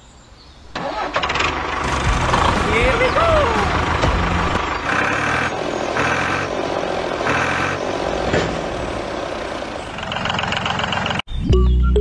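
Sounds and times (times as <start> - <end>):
heavy truck engine humming: 0.7 - 11.3.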